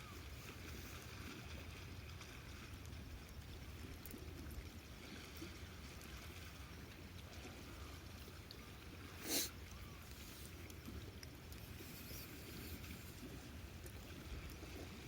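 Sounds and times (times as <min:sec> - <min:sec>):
faint campfire crackling: 0:00.1 - 0:15.0.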